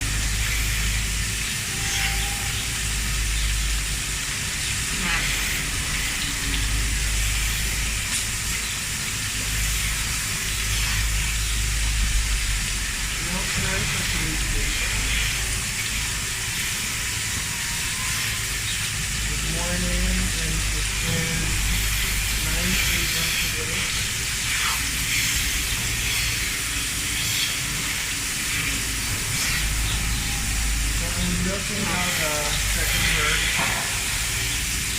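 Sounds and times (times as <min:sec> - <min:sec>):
machinery hiss: 0:00.0 - 0:34.9
machinery low hum: 0:00.0 - 0:34.9.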